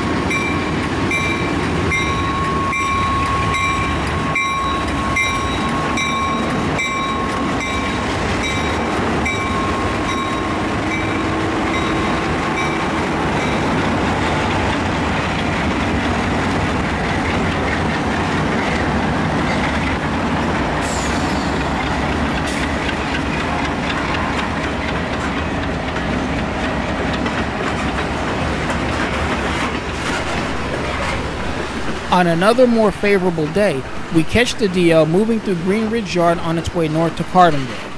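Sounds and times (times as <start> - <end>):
train rolling on rails: 0.0 - 37.9.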